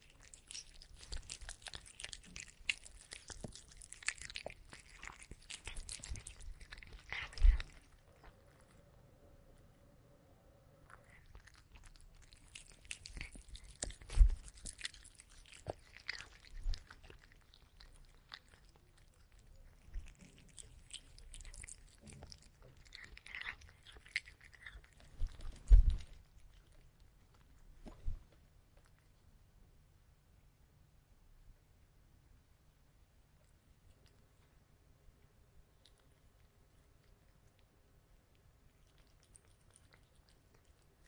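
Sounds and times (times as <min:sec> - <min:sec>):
cat chewing crunchy food: 0:00.0 - 0:09.0, 0:10.7 - 0:29.4, 0:33.3 - 0:41.0.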